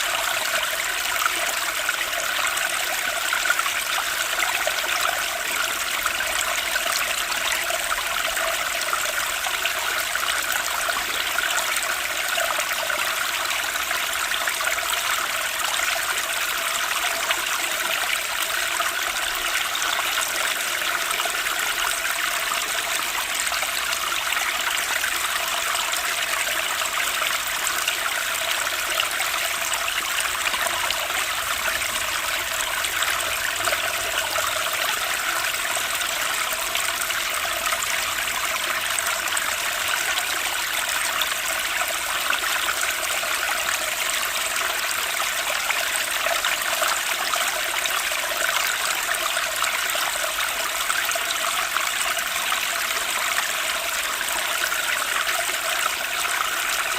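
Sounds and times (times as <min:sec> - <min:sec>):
stream water rushing and trickling: 0:00.0 - 0:56.9.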